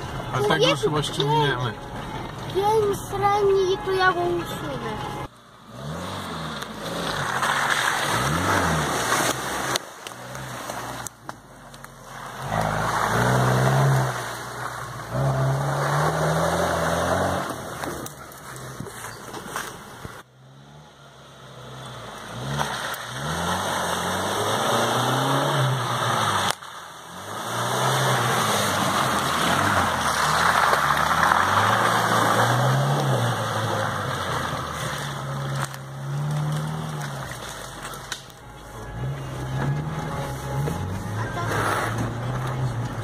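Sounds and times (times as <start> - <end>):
car engine revving: 0.0 - 18.8, 20.2 - 43.0
tyres rushing through mud: 0.0 - 43.0.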